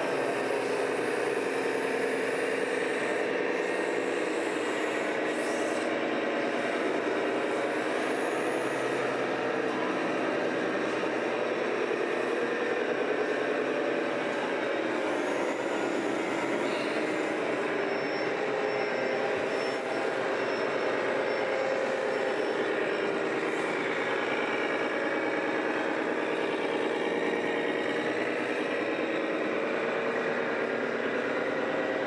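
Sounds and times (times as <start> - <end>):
rc trucks droning: 0.0 - 32.0.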